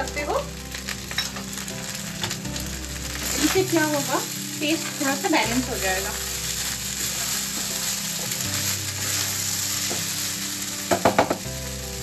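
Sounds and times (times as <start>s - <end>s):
rice sizzling in frying pan: 0.0s - 12.0s.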